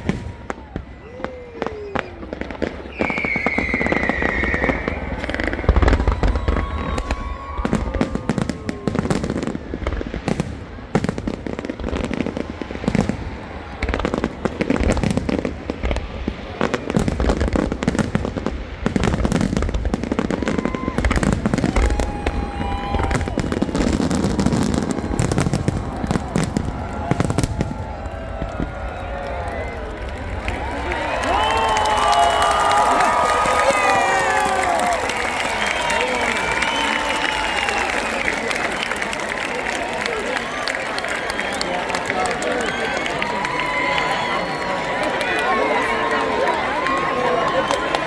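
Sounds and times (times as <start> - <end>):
deep fireworks booms: 0.0 - 38.8
fireworks bangs and crackles: 0.0 - 48.0.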